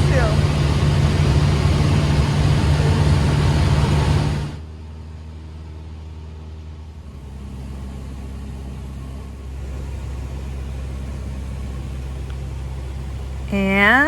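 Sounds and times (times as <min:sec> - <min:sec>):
airplane engine and propeller droning: 0:00.0 - 0:14.0.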